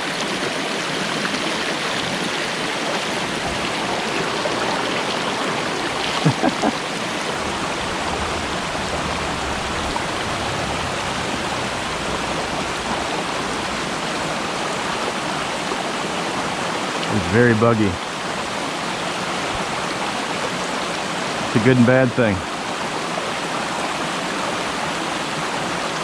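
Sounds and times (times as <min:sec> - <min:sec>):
stream rushing over waterfalls: 0:00.0 - 0:26.0.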